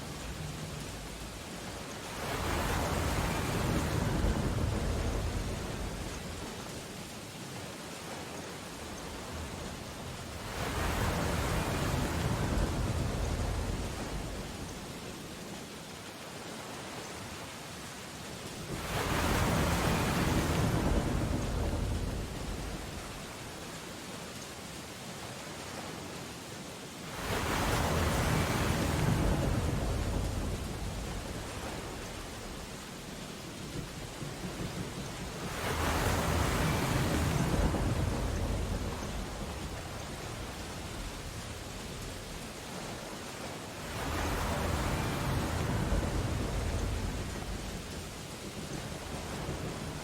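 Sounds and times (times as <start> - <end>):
steady rain: 0.0 - 50.0
stormy ocean surf: 0.0 - 50.0.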